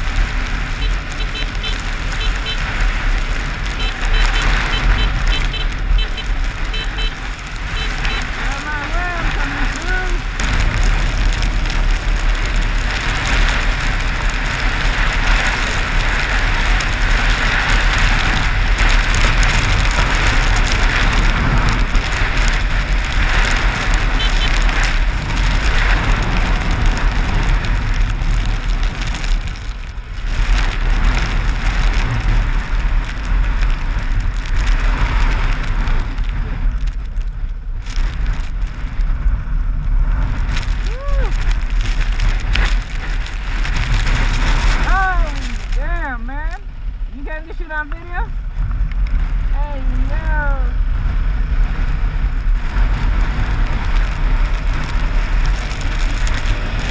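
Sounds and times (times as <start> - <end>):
dirt bike engine running: 0.0 - 56.9
wind buffeting microphone: 0.0 - 56.9.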